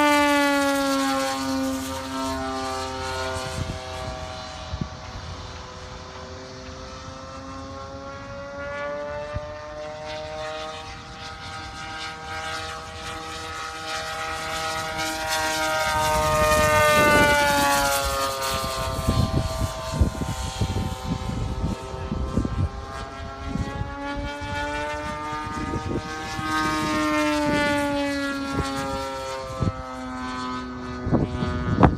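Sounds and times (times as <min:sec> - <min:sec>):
model plane engine droning: 0:00.0 - 0:31.9.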